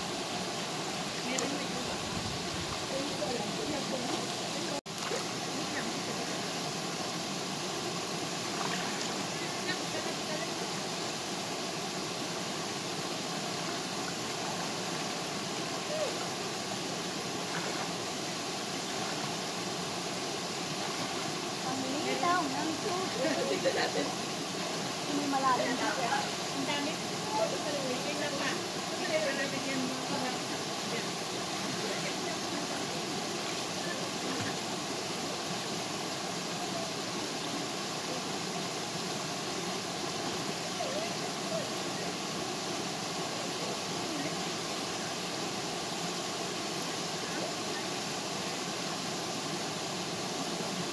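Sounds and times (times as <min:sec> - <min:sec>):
waterfall rushing into pool: 0:00.0 - 0:50.9.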